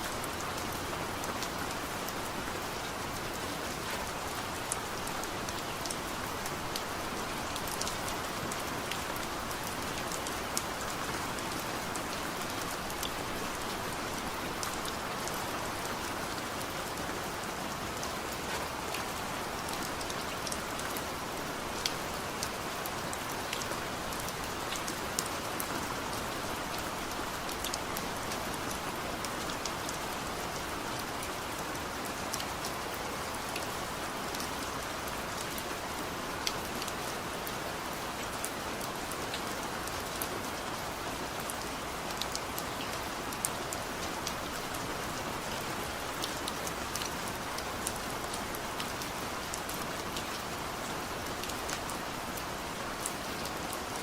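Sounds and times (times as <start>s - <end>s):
raindrops ticking on a surface: 0.0s - 54.0s.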